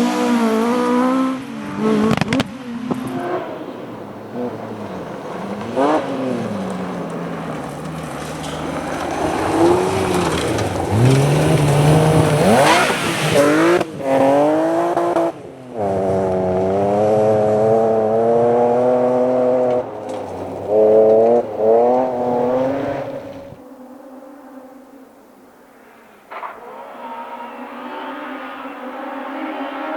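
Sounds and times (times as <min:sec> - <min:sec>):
rally car engine revving: 0:00.0 - 0:24.9, 0:26.0 - 0:29.9.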